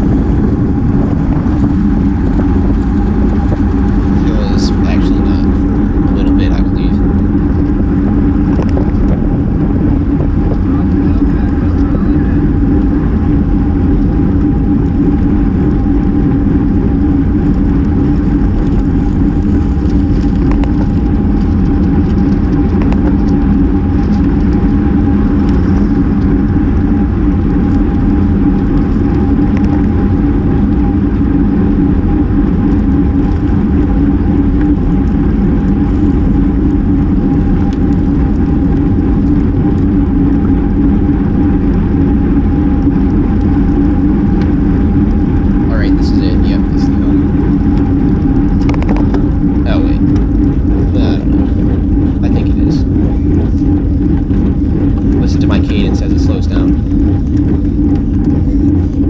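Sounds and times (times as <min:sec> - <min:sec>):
low hum: 0:00.0 - 0:59.0
road noise: 0:00.0 - 0:59.0
wind rush: 0:00.0 - 0:59.0.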